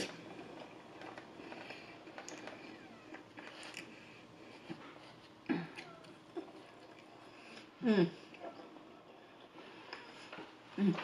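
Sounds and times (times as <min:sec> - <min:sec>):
close chewing and mouth sounds: 0:01.4 - 0:10.6.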